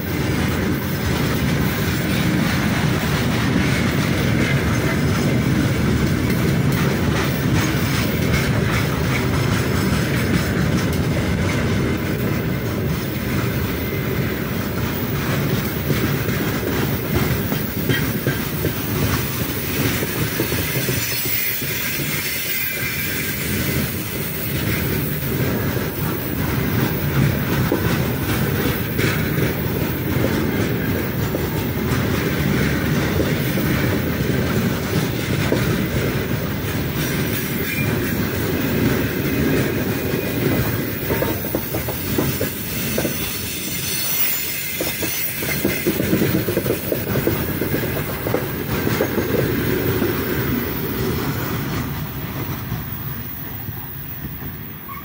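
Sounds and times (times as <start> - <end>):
train wheels rumbling on rails: 0.0 - 55.0
wheels clickety-clack on rail joints: 0.0 - 55.0.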